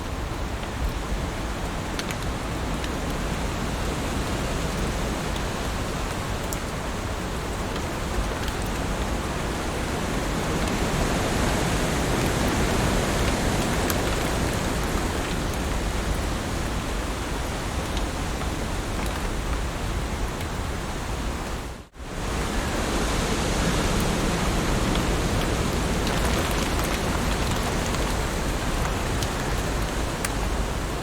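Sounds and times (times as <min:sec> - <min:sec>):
heavy rain falling: 0:00.0 - 0:31.0
rain drops ticking: 0:00.0 - 0:31.0.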